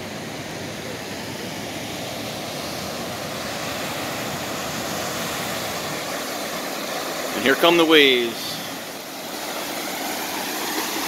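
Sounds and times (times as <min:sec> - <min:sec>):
cars splashing through floodwater: 0:00.0 - 0:11.0.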